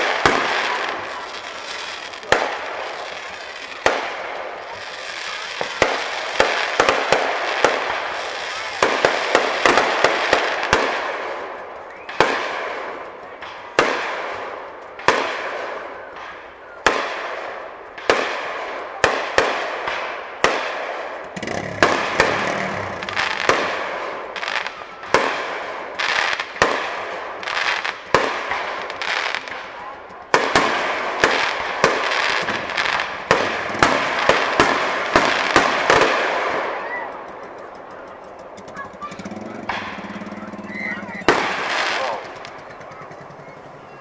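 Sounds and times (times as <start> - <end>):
fireworks bursting: 0.0 - 44.0.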